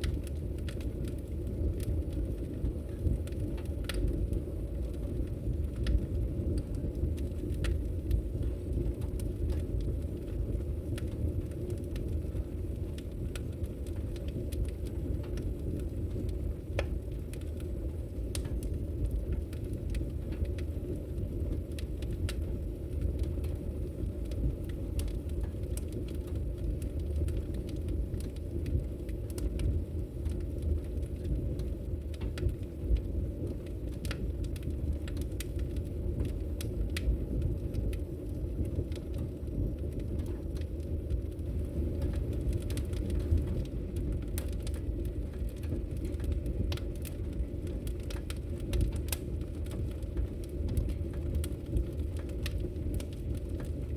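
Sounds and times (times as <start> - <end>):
logs crackling in fireplace: 0.0 - 53.9.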